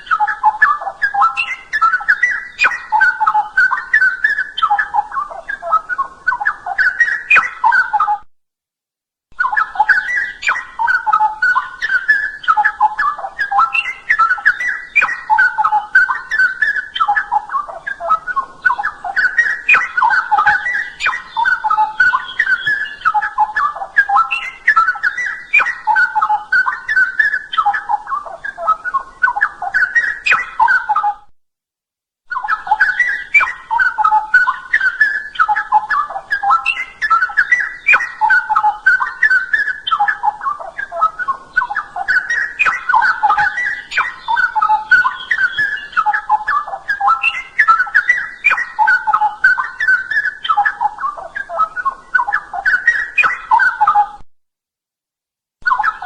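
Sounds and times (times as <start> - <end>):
bird singing bubbling whistles: 0.0 - 8.2, 9.4 - 31.2, 32.3 - 54.2, 55.6 - 56.0.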